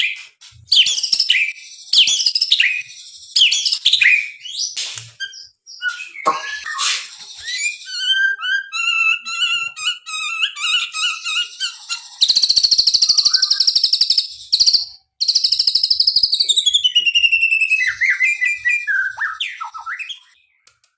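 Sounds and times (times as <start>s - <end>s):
fast bird trill: 0.0s - 20.4s
bird singing whistled notes: 0.0s - 20.6s.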